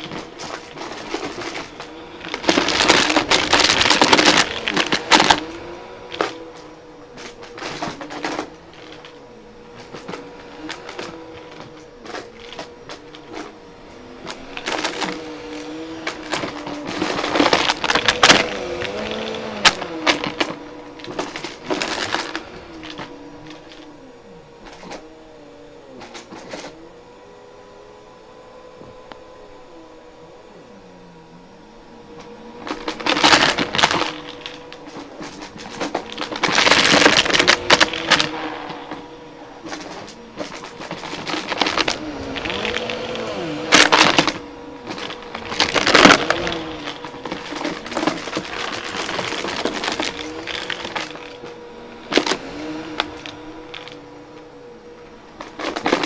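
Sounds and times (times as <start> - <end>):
coins clattering in vacuum: 0.0 - 24.0, 32.5 - 54.5, 55.3 - 56.0
vacuum cleaner motor hum: 0.0 - 56.0.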